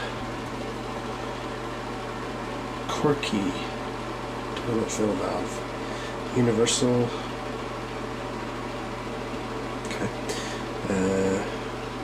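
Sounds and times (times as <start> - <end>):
exhaust fan humming: 0.0 - 12.0.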